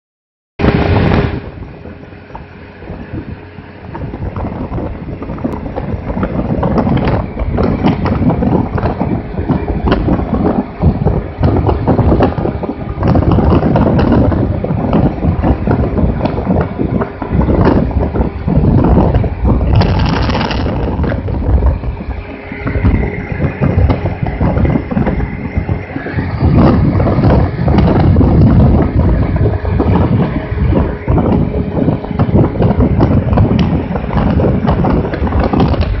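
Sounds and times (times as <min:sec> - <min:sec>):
wind buffeting microphone: 0:00.6 - 0:36.0.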